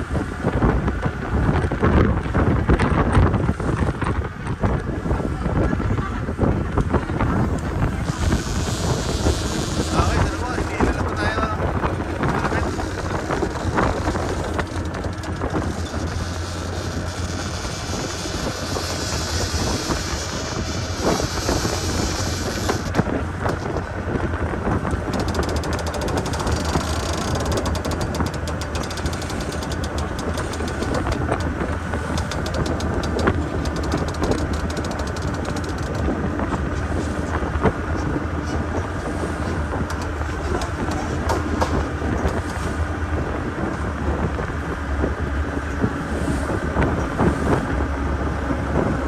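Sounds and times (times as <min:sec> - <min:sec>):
speedboat engine running: 0:00.0 - 0:49.0
wind buffeting microphone: 0:00.0 - 0:49.0.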